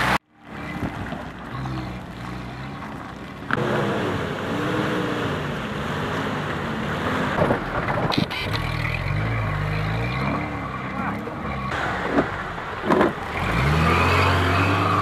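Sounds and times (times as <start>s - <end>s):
suv engine revving: 0.0s - 15.0s.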